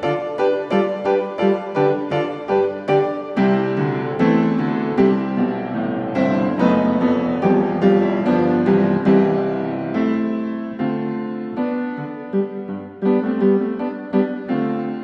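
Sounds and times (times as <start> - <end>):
piano notes and chords: 0.0 - 15.0.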